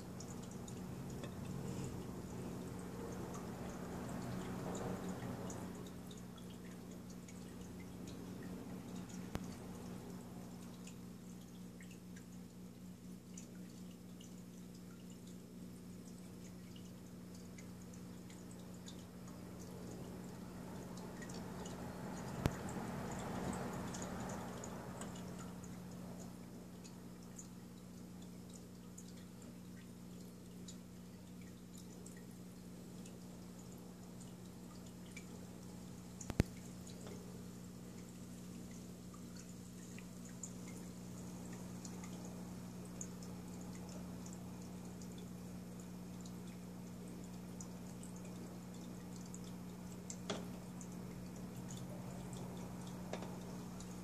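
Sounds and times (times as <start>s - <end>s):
aquarium equipment humming: 0.0s - 54.0s
faint dripping water: 0.0s - 54.0s
small ticks: 0.0s - 54.0s.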